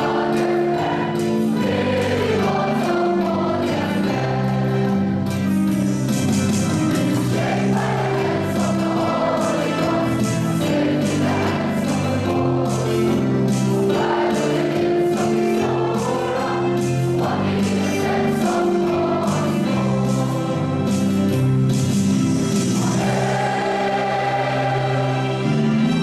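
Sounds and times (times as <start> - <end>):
crowd singing as choir: 0.0 - 5.2, 7.0 - 21.4, 22.5 - 26.0.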